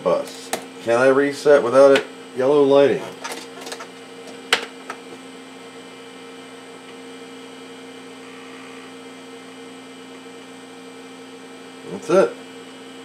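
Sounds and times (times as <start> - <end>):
computer electrical hum: 0.0 - 13.0.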